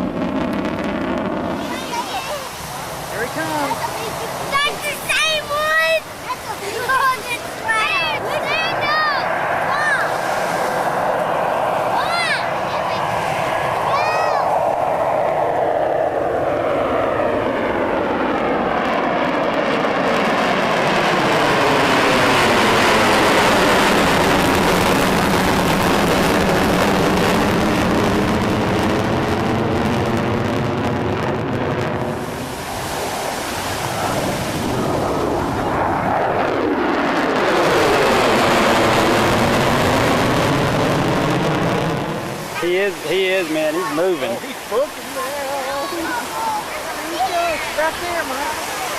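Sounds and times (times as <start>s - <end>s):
aircraft flying overhead: 0.0s - 48.9s.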